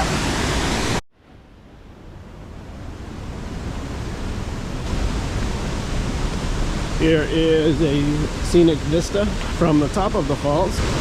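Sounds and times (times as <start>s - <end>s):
river rushing: 0.0s - 1.0s, 2.1s - 11.0s.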